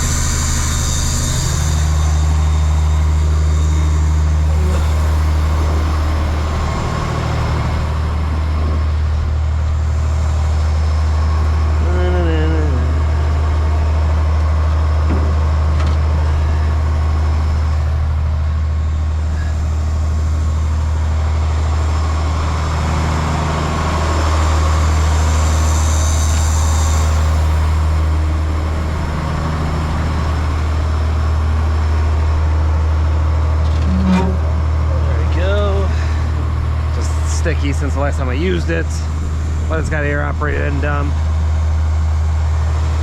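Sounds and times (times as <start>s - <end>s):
truck diesel engine humming: 0.0s - 43.0s.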